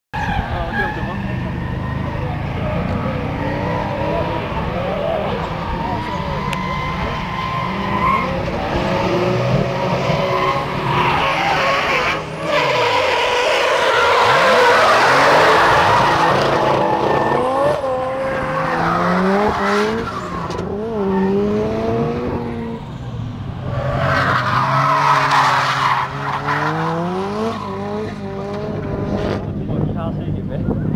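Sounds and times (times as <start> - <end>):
tyres screeching: 0.2 - 28.7
car engine revving: 0.3 - 30.9.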